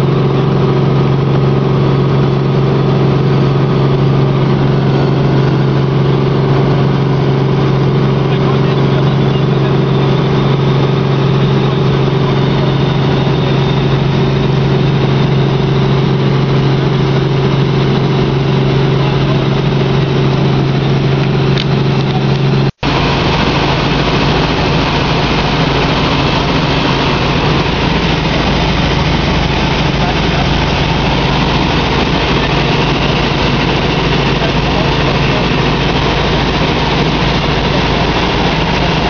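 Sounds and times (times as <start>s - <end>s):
helicopter engine and rotors: 0.0s - 39.0s.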